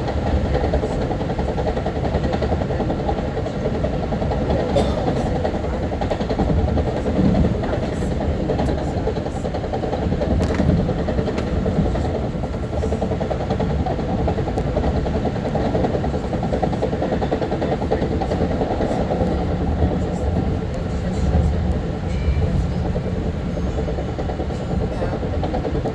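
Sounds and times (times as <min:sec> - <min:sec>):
train wheels rumbling: 0:00.0 - 0:25.9.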